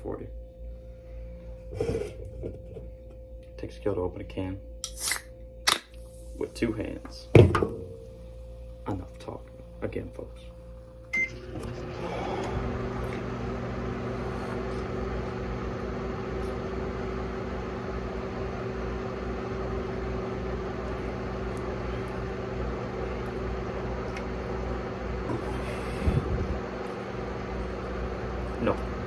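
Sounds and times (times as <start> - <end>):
microwave oven humming: 0.0 - 29.0.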